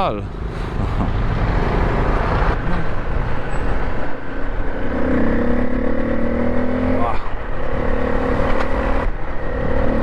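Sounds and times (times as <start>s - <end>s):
road traffic: 0.0s - 10.0s
motorcycle engines running: 0.1s - 10.0s.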